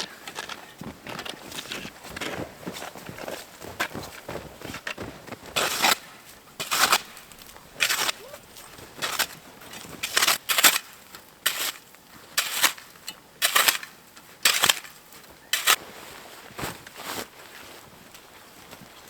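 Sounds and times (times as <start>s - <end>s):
shovel crunching and scraping snow: 0.0s - 19.0s.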